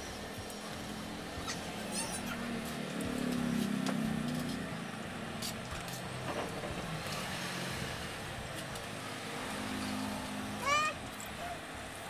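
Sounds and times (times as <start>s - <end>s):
steady background noise: 0.0s - 12.0s
vehicle engine passing: 0.8s - 11.5s.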